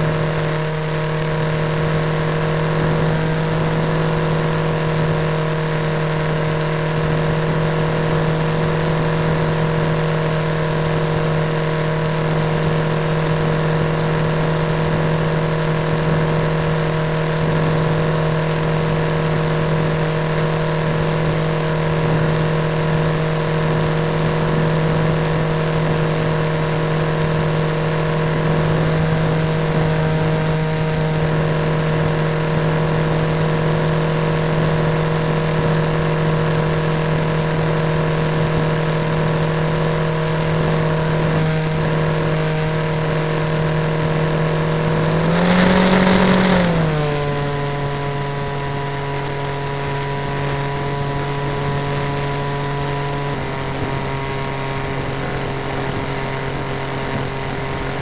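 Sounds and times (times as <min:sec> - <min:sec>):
electric motor and propeller whine: 0:00.0 - 0:58.0.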